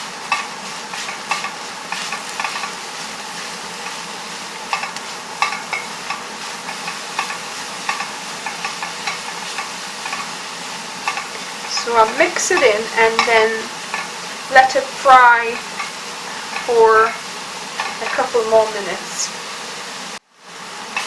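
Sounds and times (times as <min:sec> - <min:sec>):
vegetables sizzling in a pan: 0:00.0 - 0:21.0
utensil scraping a pan: 0:00.2 - 0:10.4, 0:11.0 - 0:18.7.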